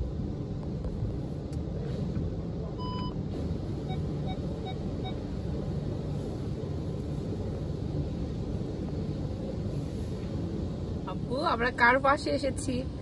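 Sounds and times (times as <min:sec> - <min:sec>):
car wash water spray rumble: 0:00.0 - 0:13.0.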